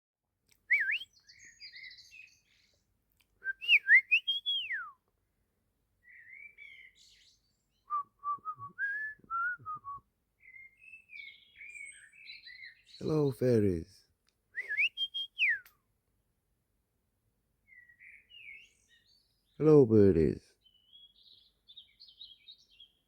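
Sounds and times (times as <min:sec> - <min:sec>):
songbirds singing: 0:00.5 - 0:23.0.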